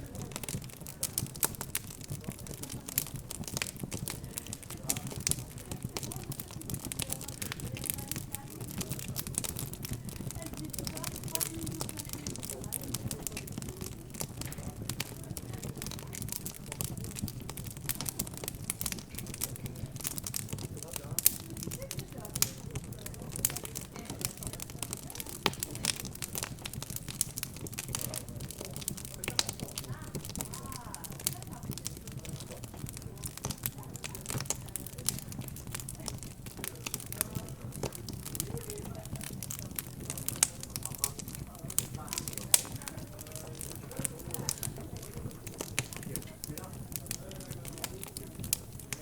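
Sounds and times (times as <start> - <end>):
murmur of background chatter: 0.0 - 49.0
wood fire crackling and popping: 0.0 - 49.0.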